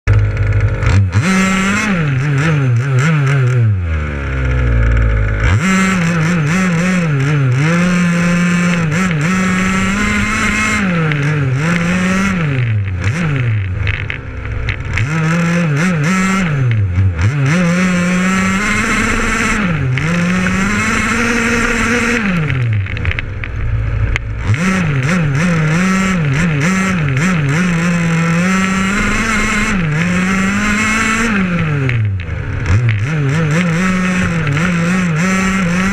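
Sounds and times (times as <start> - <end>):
small two-stroke engine revving: 0.1 - 35.9.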